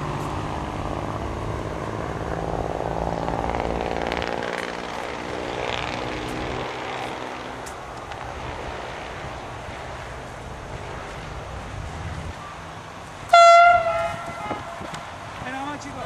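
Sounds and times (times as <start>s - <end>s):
diesel railcar engines droning: 0.0s - 16.0s.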